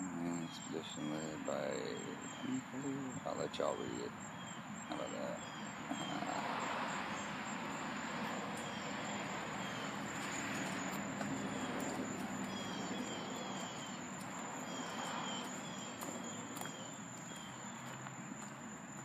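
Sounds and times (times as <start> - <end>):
birds chirping: 0.0 - 19.0
distant traffic rumble: 0.0 - 19.0
high insect drone: 0.0 - 19.0.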